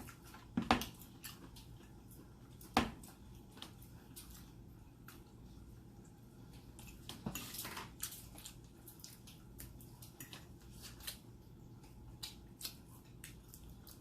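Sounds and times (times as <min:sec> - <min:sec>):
seafood cracking and chewing: 0:00.0 - 0:14.0.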